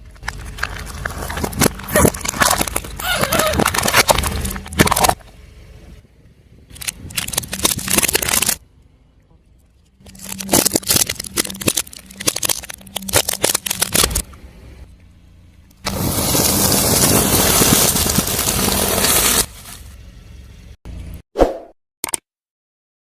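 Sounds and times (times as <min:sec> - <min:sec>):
car tyre crushing crunchy objects: 0:00.0 - 0:08.8, 0:09.8 - 0:14.8, 0:15.7 - 0:20.6
car engine humming: 0:00.0 - 0:21.2.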